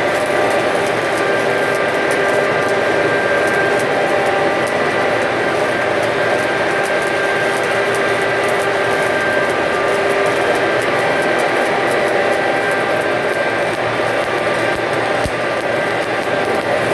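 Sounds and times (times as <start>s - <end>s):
welding arc crackling: 0.0s - 16.9s
welding machine hum: 0.0s - 16.9s.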